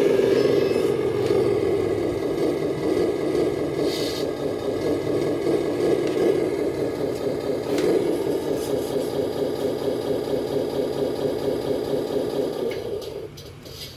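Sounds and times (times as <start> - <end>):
diesel engine idling sound effect: 0.0 - 13.9.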